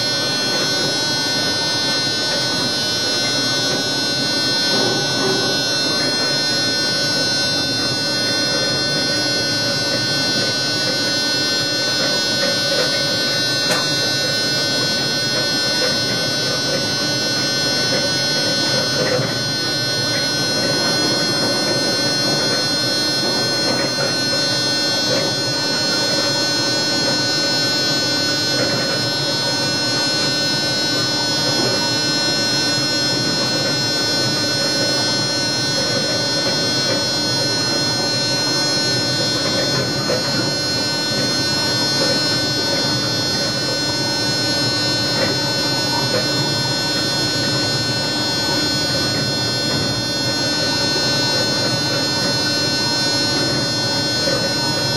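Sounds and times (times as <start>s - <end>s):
high-pitched traction motor whine: 0.0s - 54.9s.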